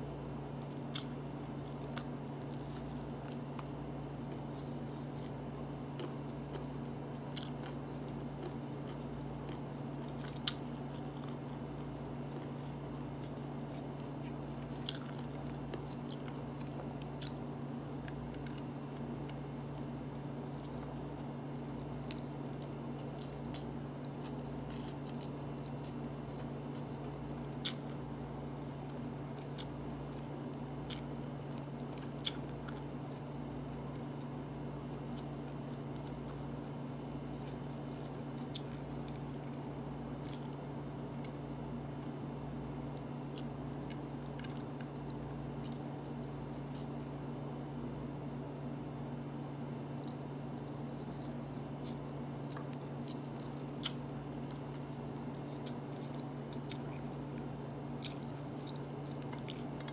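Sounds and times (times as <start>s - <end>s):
person chewing: 0.6s - 39.6s, 40.2s - 40.6s, 43.0s - 47.0s, 50.0s - 59.9s.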